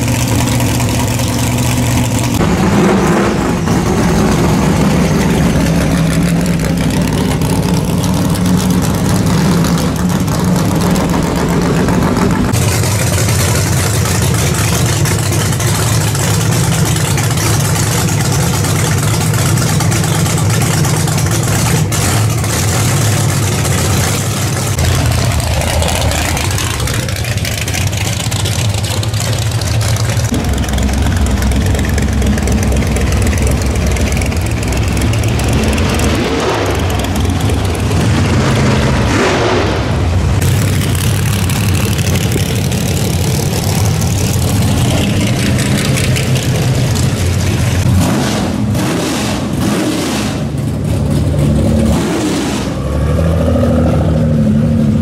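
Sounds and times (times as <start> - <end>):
racing engines idling loudly: 0.0 - 55.0.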